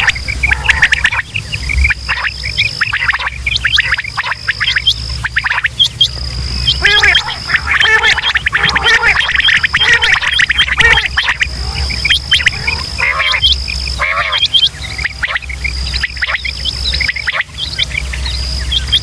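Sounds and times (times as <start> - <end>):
lower rounder bird calls: 0.0 - 19.0
quail calling: 0.0 - 19.0
steady high-pitched tone: 0.0 - 19.0.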